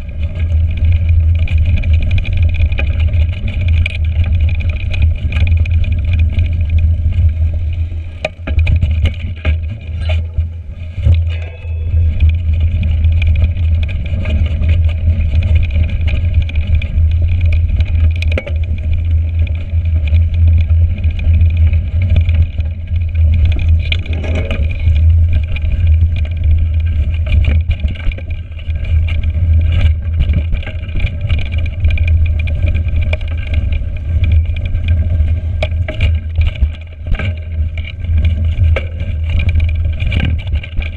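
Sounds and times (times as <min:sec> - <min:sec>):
bike knocks and rattles: 0:00.0 - 0:40.9
bike tyre noise: 0:00.0 - 0:40.9
wind rumble on microphone: 0:00.0 - 0:40.9.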